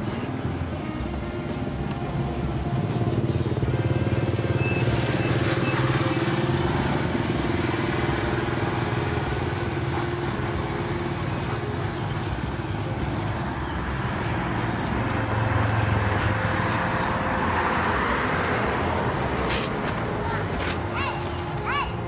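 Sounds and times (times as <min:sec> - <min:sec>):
motor engine running: 0:00.0 - 0:21.6.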